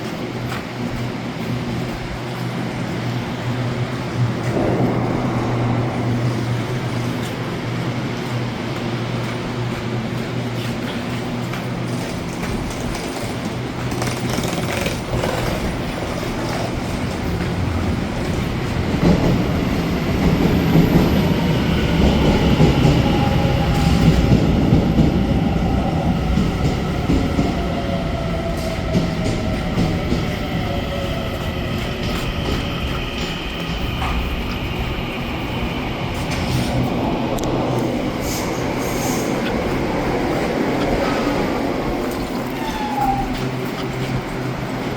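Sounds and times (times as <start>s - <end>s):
train rail rumble: 0.0s - 44.9s.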